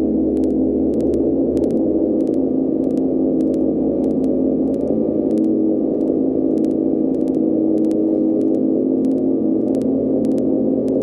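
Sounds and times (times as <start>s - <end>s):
droning hum with static: 0.0s - 11.0s.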